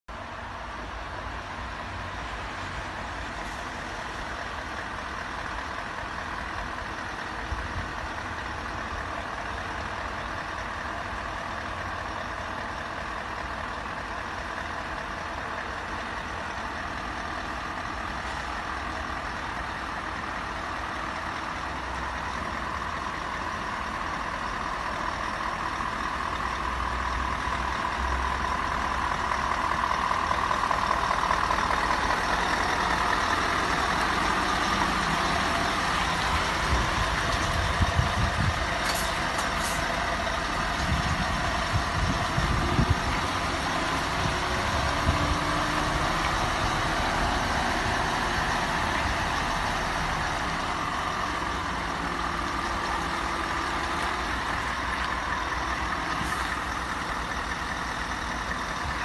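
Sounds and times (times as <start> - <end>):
truck engine running: 0.1 - 59.0.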